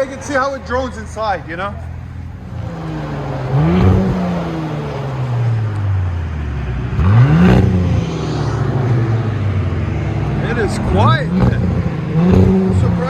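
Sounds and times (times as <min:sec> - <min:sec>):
car exhaust revving: 0:00.0 - 0:13.0.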